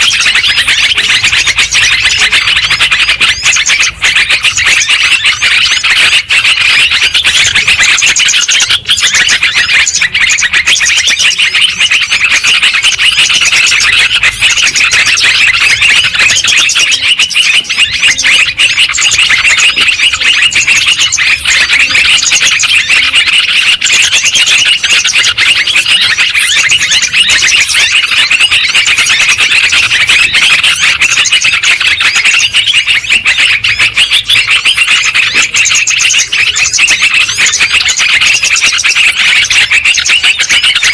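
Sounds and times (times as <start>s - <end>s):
bulbuls chirping and trilling: 0.0s - 40.9s.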